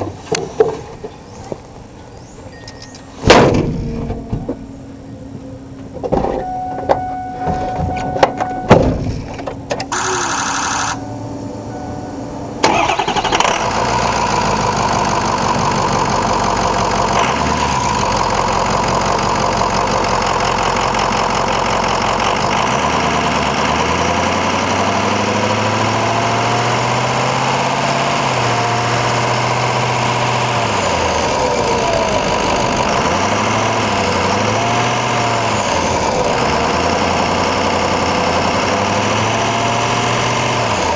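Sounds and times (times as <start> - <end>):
diesel engine starting and running: 0.0 - 40.9.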